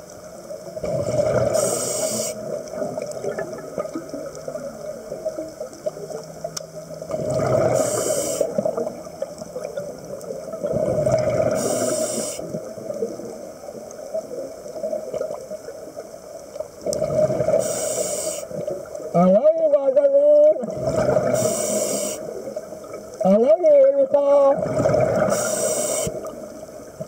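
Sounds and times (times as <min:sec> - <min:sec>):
underwater gurgling: 0:00.0 - 0:27.0.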